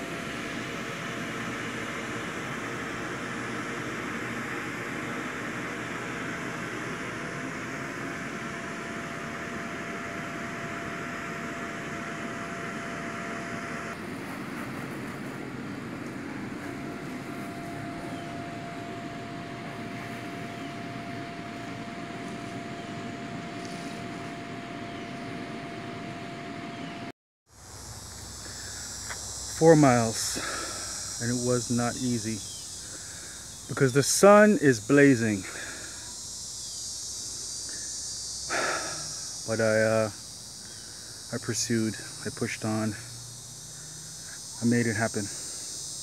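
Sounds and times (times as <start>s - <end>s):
electric blower whooshing hum: 0.0s - 46.0s.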